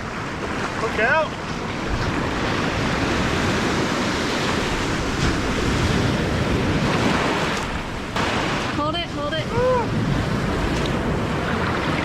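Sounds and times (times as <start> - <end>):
ocean surf washing onto beach: 0.0 - 12.0
wind on microphone: 1.4 - 12.0.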